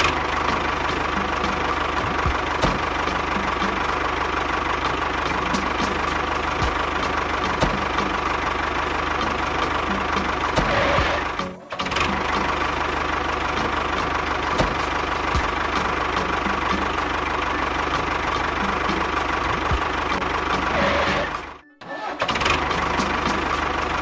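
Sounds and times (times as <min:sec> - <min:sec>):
engine running with knocking tick: 0:00.0 - 0:21.6, 0:22.2 - 0:24.0.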